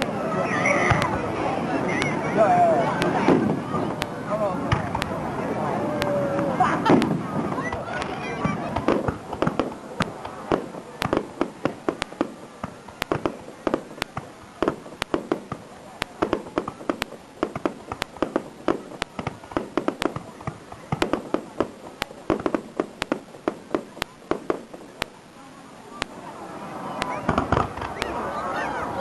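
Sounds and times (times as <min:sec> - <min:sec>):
fireworks bangs and pops: 0:00.0 - 0:25.2, 0:25.9 - 0:26.2, 0:26.9 - 0:28.4.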